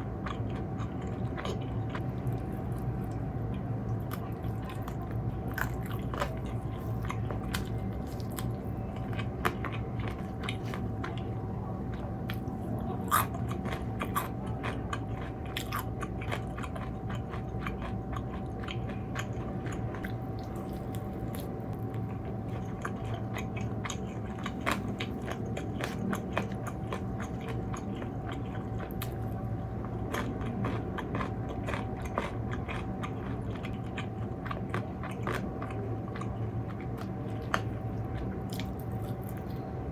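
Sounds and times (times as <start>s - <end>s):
chewing crisp food: 0.0s - 39.9s
low background hum: 0.0s - 39.9s.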